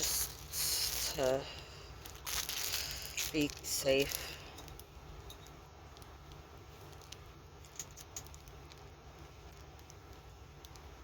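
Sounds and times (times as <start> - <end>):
low steady hum: 0.0 - 11.0
small handling noises: 0.0 - 11.0.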